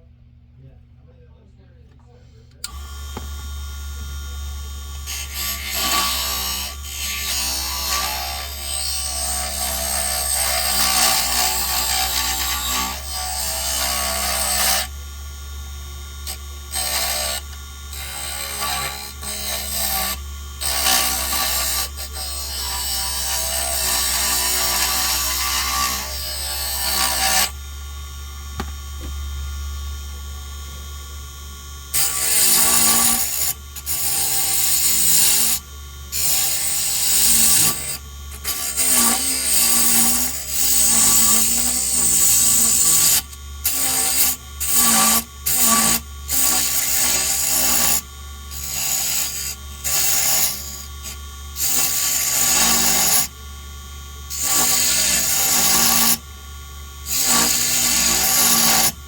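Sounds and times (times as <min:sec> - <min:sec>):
tool scraping spinning wood: 0:02.1 - 0:27.6, 0:31.9 - 0:53.4, 0:54.3 - 0:56.2, 0:57.0 - 0:59.0
wood lathe humming: 0:02.6 - 0:59.0.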